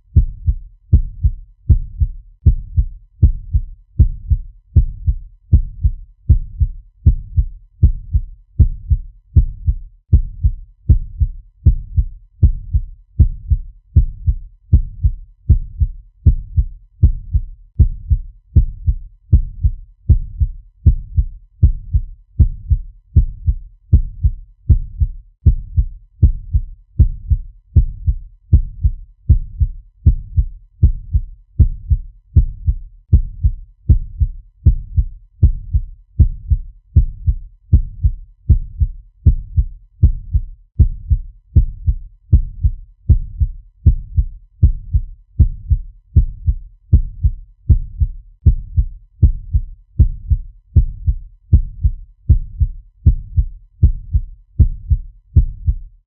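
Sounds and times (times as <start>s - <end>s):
heartbeat double thumps: 0.1s - 55.9s.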